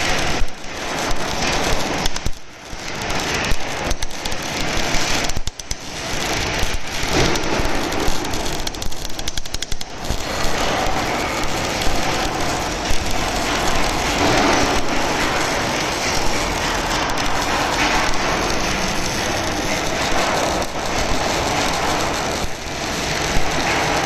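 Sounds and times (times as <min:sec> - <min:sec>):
welding arc crackling: 0:00.0 - 0:24.0.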